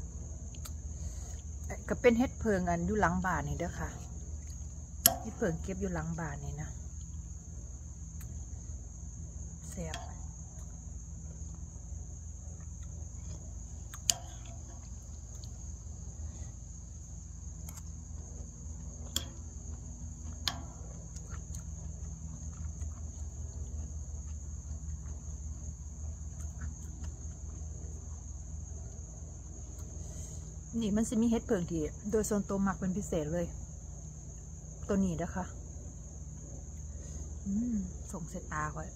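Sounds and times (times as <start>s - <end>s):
insects singing: 0.0s - 38.9s
low steady hum: 0.0s - 38.9s.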